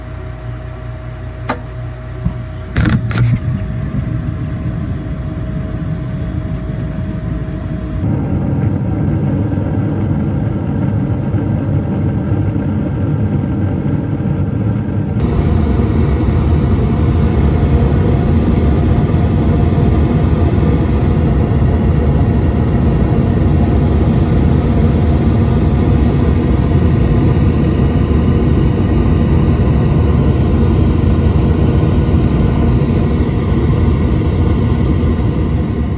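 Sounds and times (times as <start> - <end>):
gas furnace rumbling: 0.0 - 35.9.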